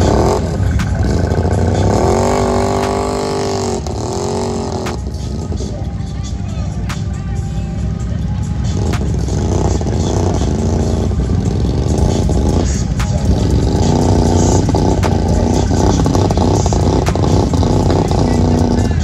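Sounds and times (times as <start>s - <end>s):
quad engine revving: 0.0s - 6.0s, 7.8s - 19.0s.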